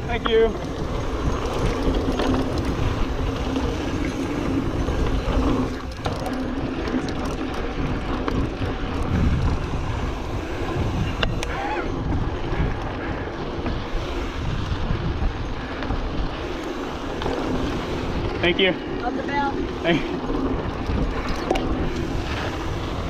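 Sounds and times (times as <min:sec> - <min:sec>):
bike rattling over bumps: 0:00.0 - 0:23.0
bike tyres rumbling on gravel: 0:00.0 - 0:23.0
wind buffeting microphone: 0:00.0 - 0:23.0.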